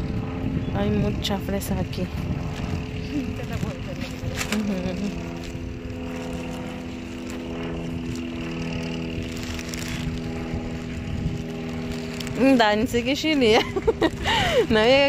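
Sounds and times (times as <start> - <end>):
motor engine hum: 0.0 - 15.0.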